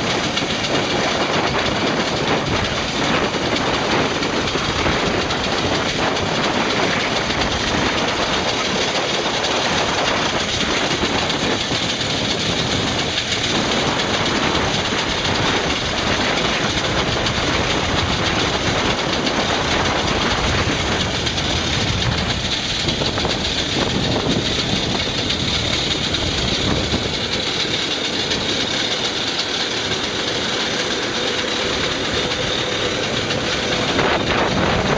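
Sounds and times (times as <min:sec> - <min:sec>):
faint rattle: 0:00.0 - 0:34.9
vehicle rumble and rush: 0:00.0 - 0:34.9.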